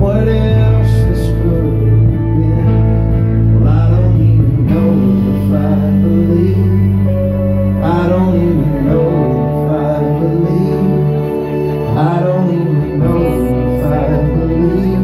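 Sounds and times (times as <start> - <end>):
live band playing slow song: 0.0 - 15.0.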